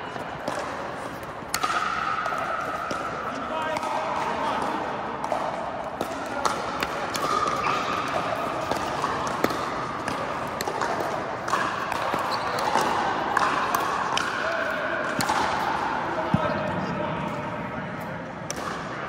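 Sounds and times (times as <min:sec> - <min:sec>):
hubbub of court hall: 0:00.0 - 0:19.0.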